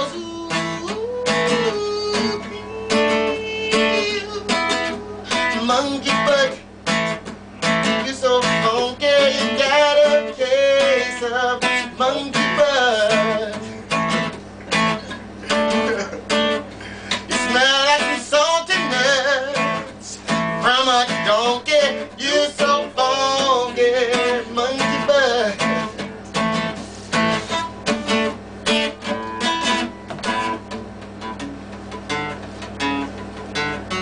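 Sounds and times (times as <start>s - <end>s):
strummed acoustic guitar: 0.0s - 34.0s.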